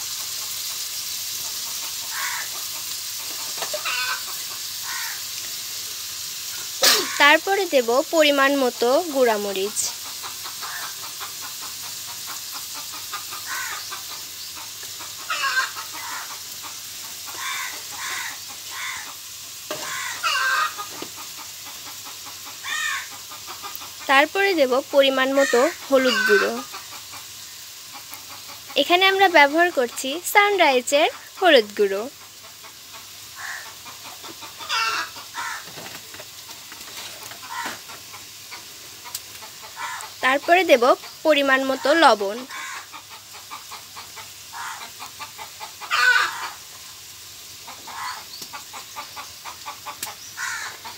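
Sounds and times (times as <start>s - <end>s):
chicken frying sizzle: 0.0s - 50.9s
chickens clucking: 0.0s - 50.9s.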